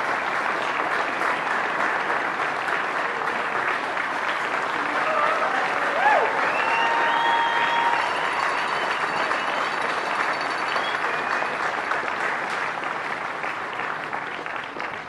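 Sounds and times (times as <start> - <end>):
crowd applauding: 0.0 - 15.0
crowd cheering: 0.0 - 15.0.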